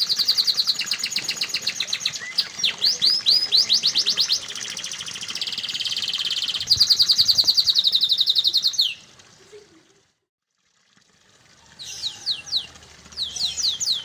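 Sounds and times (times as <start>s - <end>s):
canary singing trills: 0.0s - 9.0s, 11.8s - 14.0s.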